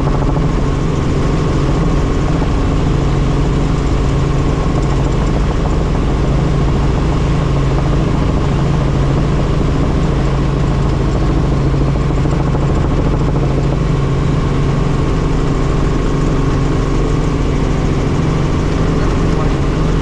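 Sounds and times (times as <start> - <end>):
helicopter rotor drone: 0.0 - 20.0.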